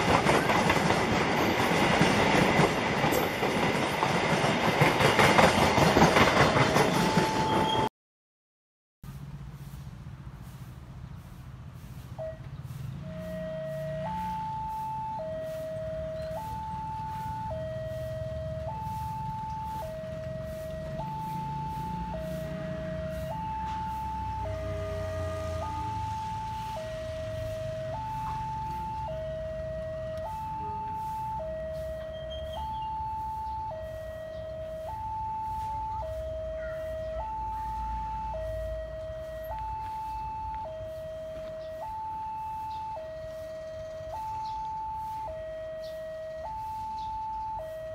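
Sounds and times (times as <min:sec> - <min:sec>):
two-tone level crossing alarm: 0:00.0 - 0:07.9, 0:12.1 - 0:47.9.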